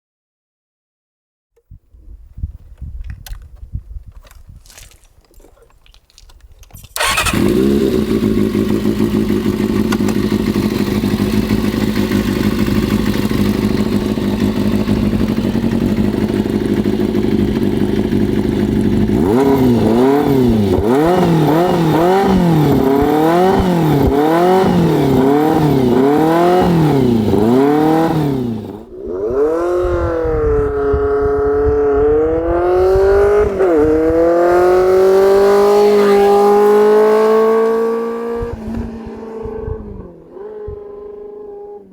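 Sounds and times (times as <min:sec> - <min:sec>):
motorcycle engine revving: 0:07.0 - 0:41.9.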